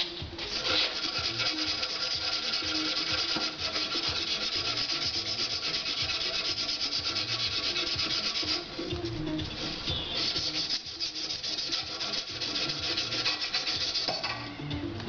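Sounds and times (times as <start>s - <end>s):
sanding metal rasp: 0.4s - 14.2s.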